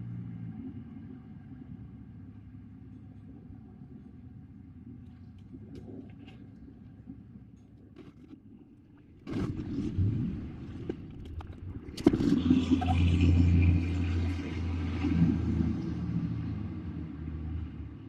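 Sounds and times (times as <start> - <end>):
low rumble of street traffic: 0.0 - 18.0.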